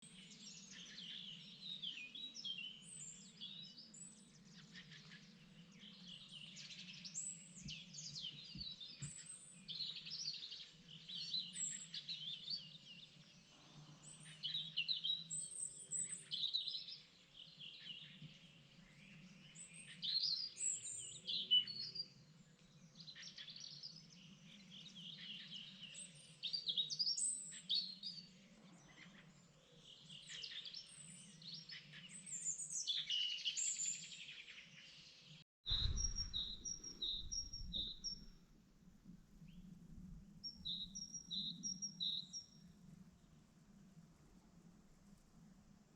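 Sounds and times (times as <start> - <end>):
songbirds singing and chirping: 0.0 - 38.4, 39.3 - 43.4.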